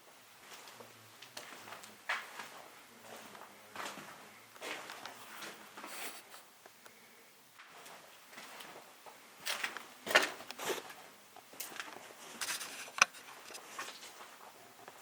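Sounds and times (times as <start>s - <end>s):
footsteps crunching on debris: 0.4s - 6.3s, 7.6s - 15.0s.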